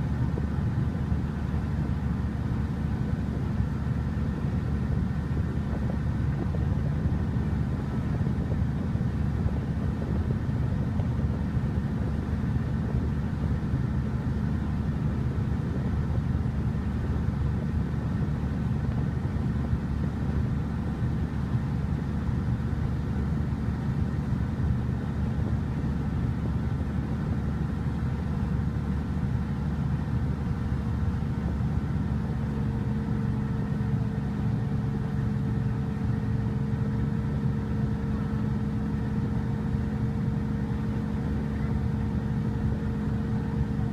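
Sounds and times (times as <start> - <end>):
ferry engine droning: 0.0 - 43.9.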